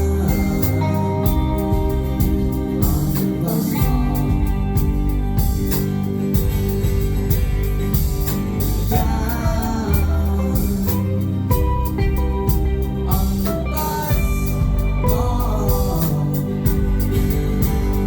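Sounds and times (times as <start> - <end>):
person singing: 0.0 - 5.7, 8.8 - 18.0
live band playing: 0.0 - 18.0.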